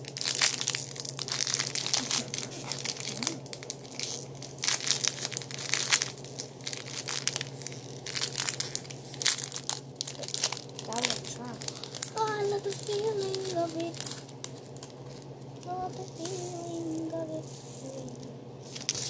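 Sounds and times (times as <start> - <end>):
plastic packet crinkling: 0.0 - 19.0.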